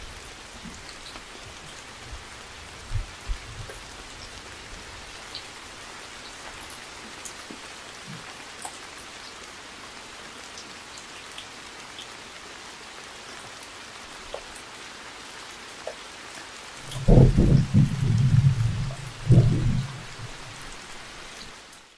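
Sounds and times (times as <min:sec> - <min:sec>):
close raindrops striking: 0:00.0 - 0:21.9
steady rain hiss: 0:00.0 - 0:21.9.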